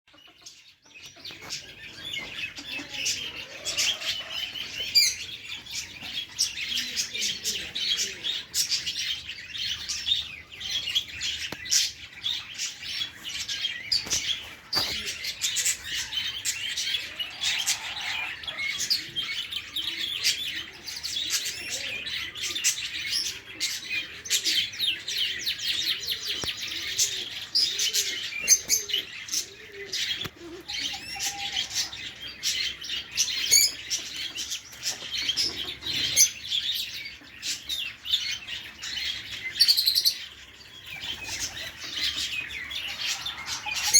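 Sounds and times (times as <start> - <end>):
small birds chirping and twittering: 0.1 - 43.9.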